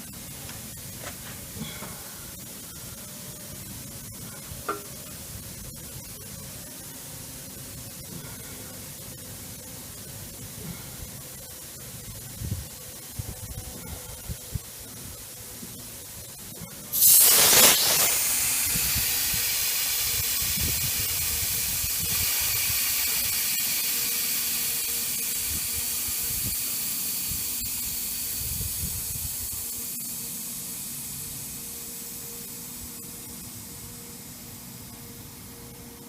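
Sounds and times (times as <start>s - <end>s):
compressed air hissing: 0.0s - 34.5s.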